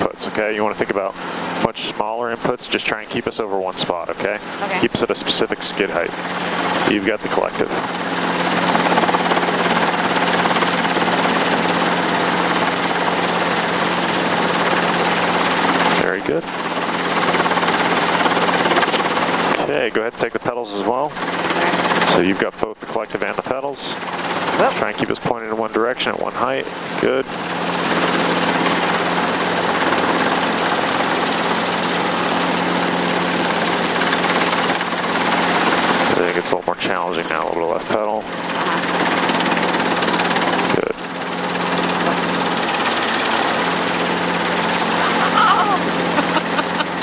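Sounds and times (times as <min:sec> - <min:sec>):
helicopter engine and rotor noise: 0:00.0 - 0:47.0.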